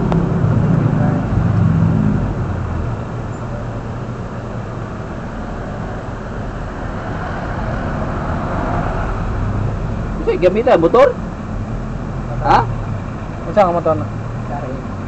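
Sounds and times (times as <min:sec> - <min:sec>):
road vehicle rumble: 0:00.0 - 0:15.0
traffic noise: 0:00.0 - 0:15.0.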